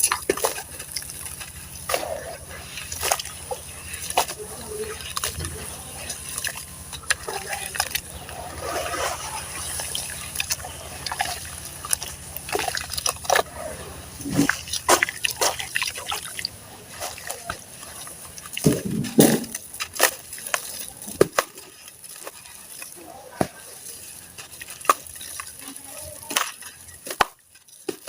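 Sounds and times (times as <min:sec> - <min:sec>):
wet cement crumbling: 0:00.0 - 0:28.0
wet sloshing: 0:00.0 - 0:28.0.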